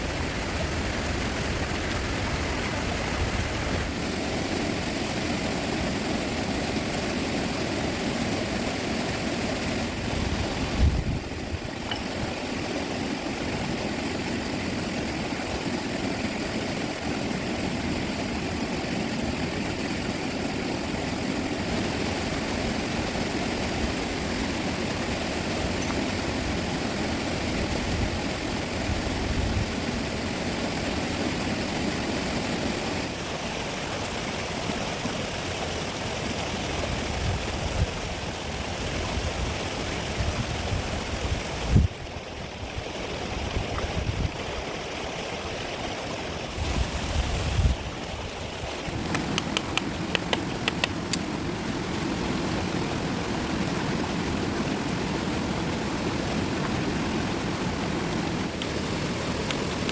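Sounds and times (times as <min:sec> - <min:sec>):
rushing river water roar: 0:00.0 - 0:59.9.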